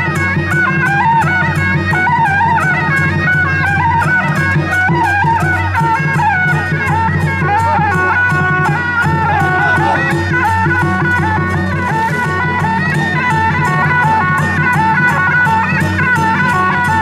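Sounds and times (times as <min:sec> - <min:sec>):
drums: 0:00.0 - 0:17.0
percussion strikes: 0:00.0 - 0:17.0
shrill reed wind instrument: 0:00.0 - 0:17.0.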